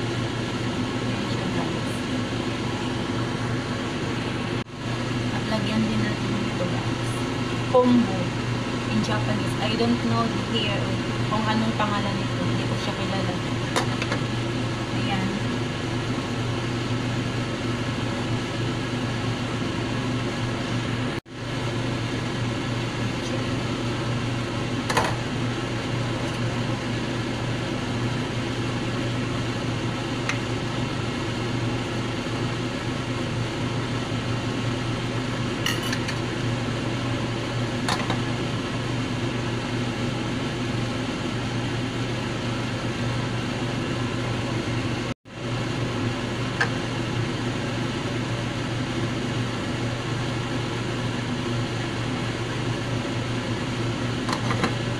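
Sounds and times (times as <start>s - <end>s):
appliance fan humming: 0.0s - 54.9s.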